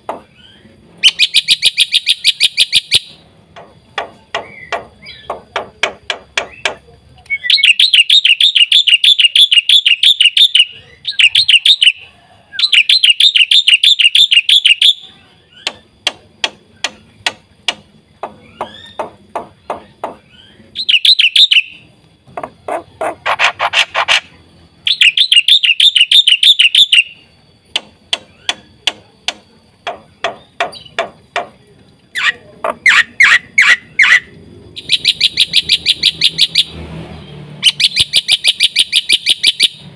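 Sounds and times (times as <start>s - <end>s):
bird trilling and chattering: 0.1s - 39.8s.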